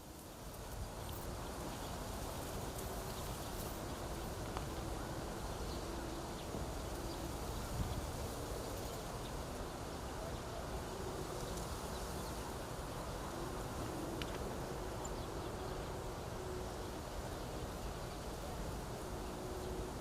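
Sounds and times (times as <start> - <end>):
wind rustling through reeds: 0.0 - 20.0.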